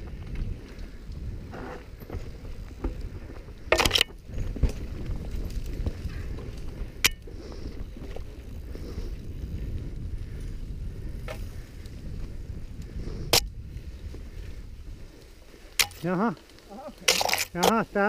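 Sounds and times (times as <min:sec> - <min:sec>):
bike tyres rumbling on dirt: 0:00.0 - 0:18.0.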